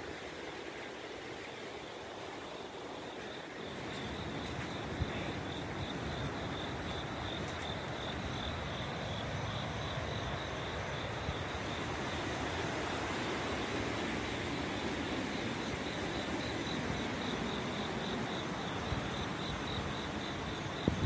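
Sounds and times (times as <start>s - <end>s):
insects chirping: 0.0s - 21.0s
steady rushing hiss: 0.0s - 21.0s.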